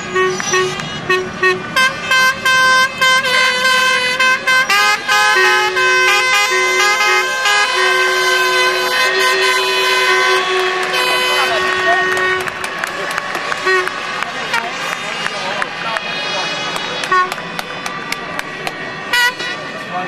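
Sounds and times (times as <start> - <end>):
handheld air horns blowing: 0.0 - 15.6, 16.2 - 17.9, 18.6 - 19.8.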